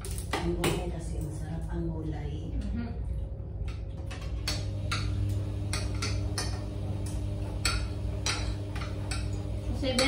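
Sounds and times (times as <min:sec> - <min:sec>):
steady low hum: 0:00.8 - 0:10.0.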